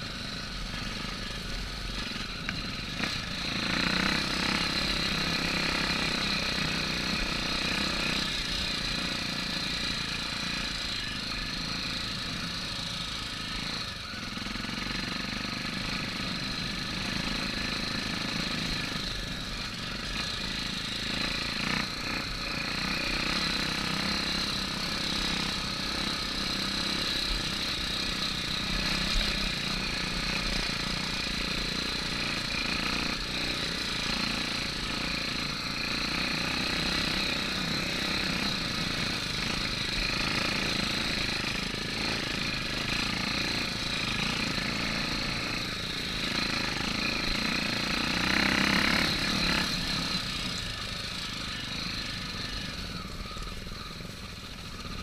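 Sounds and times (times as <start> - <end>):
motorcycle engine at low speed: 0.0 - 55.0.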